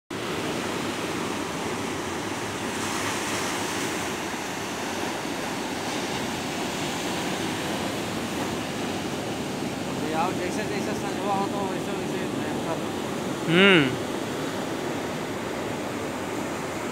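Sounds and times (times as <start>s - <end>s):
waves breaking on rocks: 0.2s - 16.9s.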